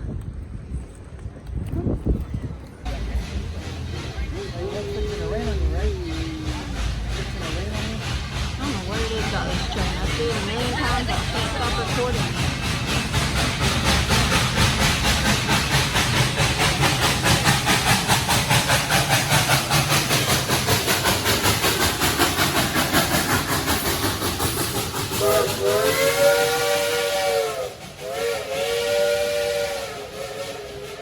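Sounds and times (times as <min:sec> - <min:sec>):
steam locomotive chuffing: 0:02.5 - 0:31.0.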